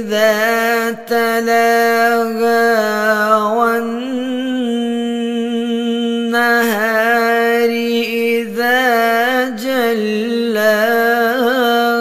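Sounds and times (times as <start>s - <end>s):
person chanting melodically: 0.0s - 12.0s.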